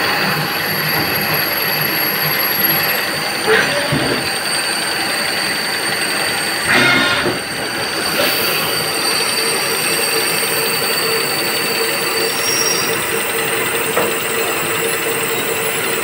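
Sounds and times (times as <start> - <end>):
machining centre high whine: 0.0 - 16.0.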